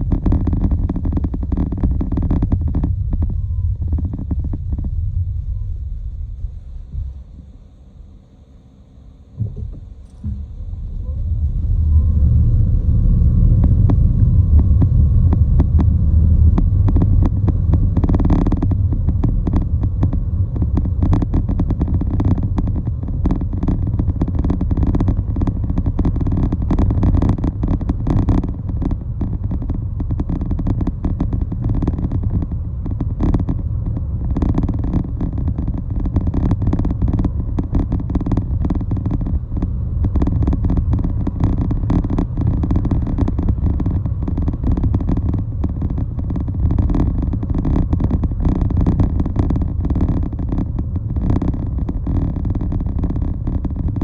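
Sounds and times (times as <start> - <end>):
low vehicle rumble: 0.0 - 54.0
rattling and buffeting: 9.4 - 54.0.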